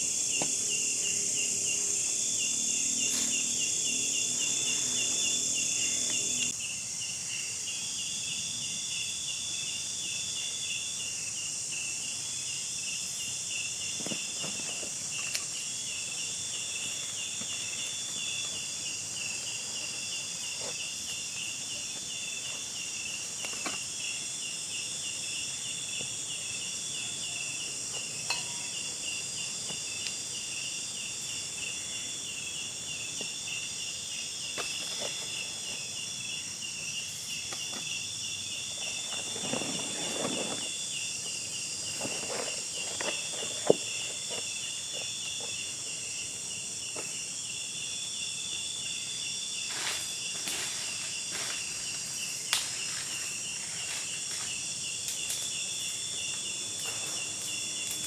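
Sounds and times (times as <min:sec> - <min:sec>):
crickets chirping: 0:00.0 - 0:58.0
high-pitched insect hiss: 0:00.0 - 0:58.0.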